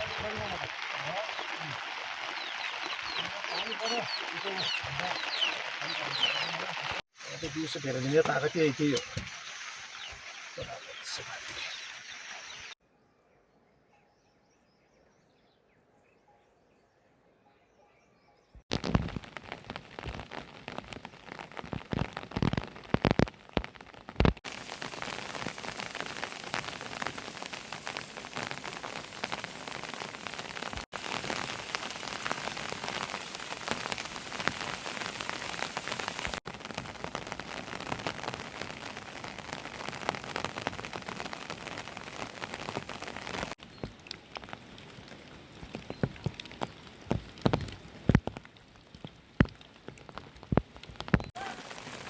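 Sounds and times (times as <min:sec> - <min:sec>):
rain falling steadily: 0:00.0 - 0:12.8, 0:18.7 - 0:52.0.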